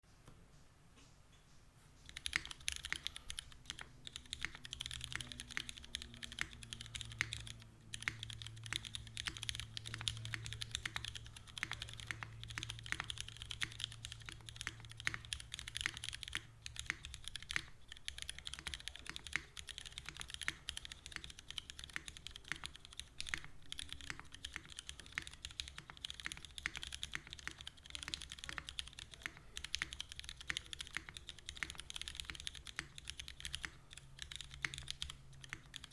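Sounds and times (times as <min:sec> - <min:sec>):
mechanical keyboard typing: 0:02.0 - 0:35.9.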